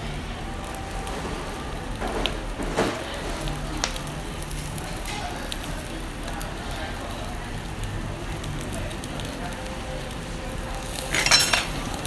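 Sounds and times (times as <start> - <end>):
charcoal crackling and popping: 0.0 - 12.0
fish sizzling on grill: 0.0 - 12.0.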